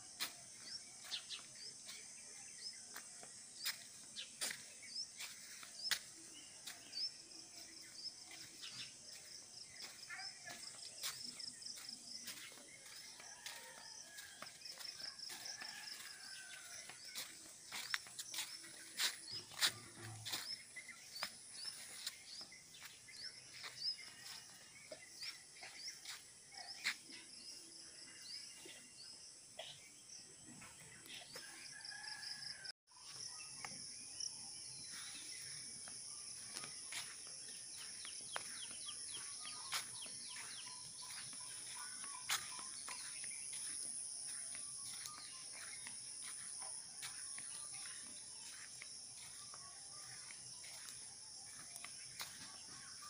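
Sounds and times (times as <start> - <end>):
small birds chirping: 0.0 - 32.2, 33.0 - 53.0.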